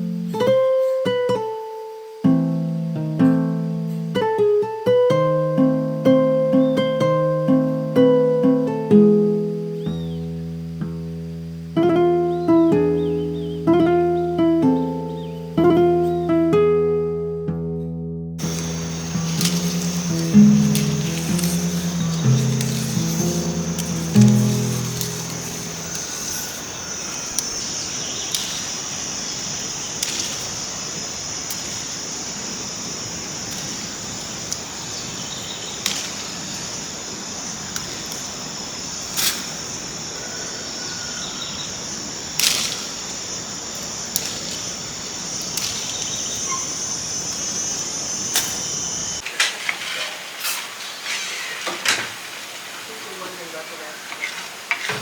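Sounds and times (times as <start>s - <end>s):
high-pitched insect chorus: 0.0s - 16.9s, 18.4s - 55.0s.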